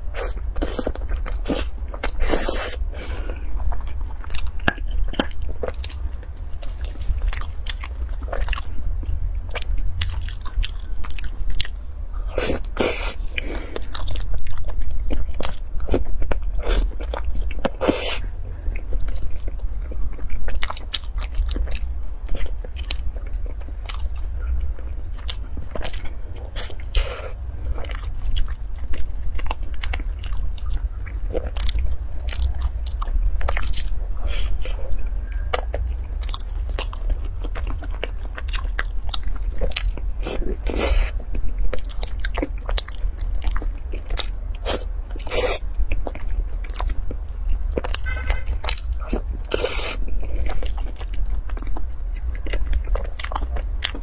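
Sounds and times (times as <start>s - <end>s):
chewing and crunching pastry: 0.0s - 54.0s
steady low hum: 0.0s - 54.0s.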